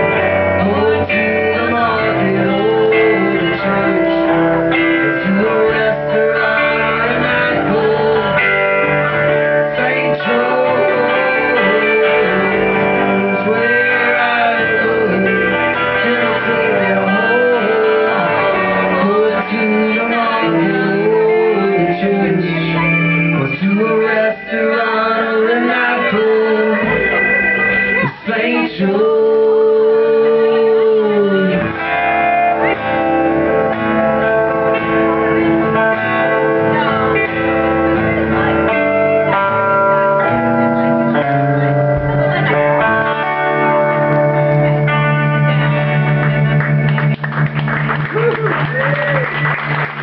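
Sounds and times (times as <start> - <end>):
person singing: 0.0 - 46.6
electric guitars: 0.0 - 50.0
rock band playing live: 0.0 - 50.0.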